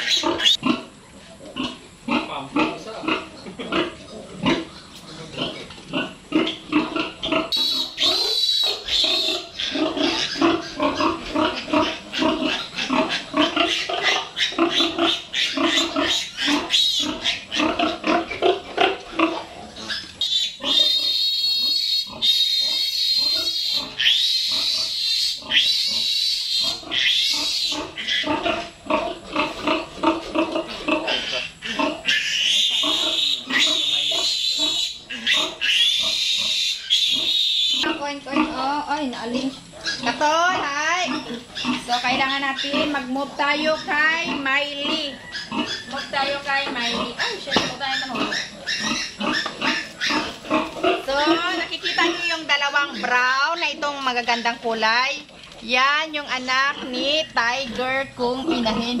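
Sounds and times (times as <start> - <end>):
piglets squealing: 0.0 - 0.9, 1.6 - 59.0
piglets grunting: 0.0 - 59.0.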